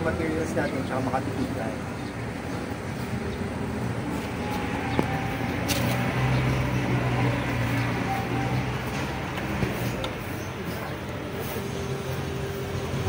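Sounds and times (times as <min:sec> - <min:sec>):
engine low hum: 0:00.0 - 0:13.0
traffic rumble: 0:00.0 - 0:13.0.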